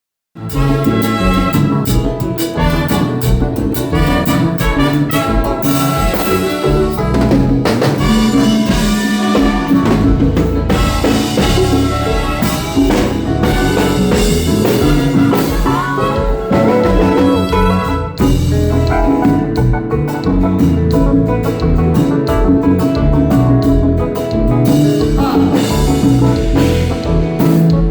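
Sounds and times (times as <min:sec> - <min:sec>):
bass: 0:00.4 - 0:27.9
drum kit steady beat: 0:00.4 - 0:27.9.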